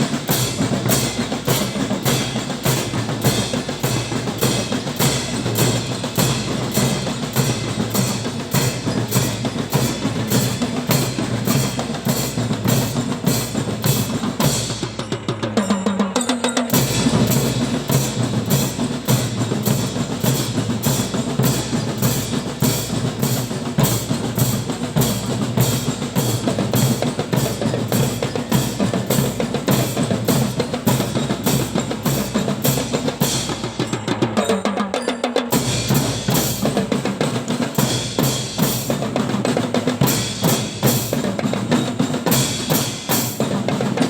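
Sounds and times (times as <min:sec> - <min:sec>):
fast drumming: 0:00.0 - 0:44.0
snare drum strokes: 0:00.0 - 0:44.0.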